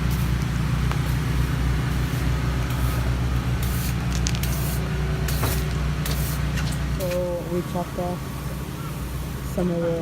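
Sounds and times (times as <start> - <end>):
small engine droning: 0.0 - 10.0.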